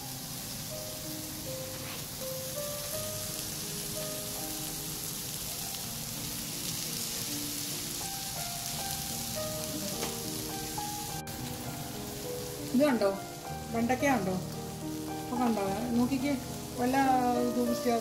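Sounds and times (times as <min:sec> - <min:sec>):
soft background music: 0:00.0 - 0:18.0
vegetables sizzling in a frying pan: 0:00.0 - 0:18.0.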